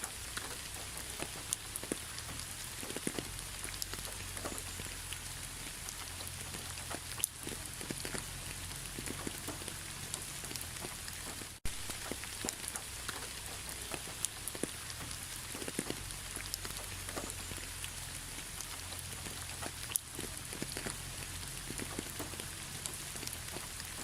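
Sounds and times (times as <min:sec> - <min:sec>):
raindrops ticking on a surface: 0:00.0 - 0:24.0
steady rain hiss: 0:00.0 - 0:24.0.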